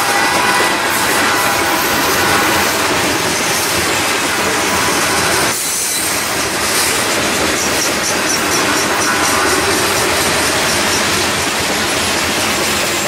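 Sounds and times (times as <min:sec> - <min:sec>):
steel wheels on rails: 0:00.0 - 0:13.0.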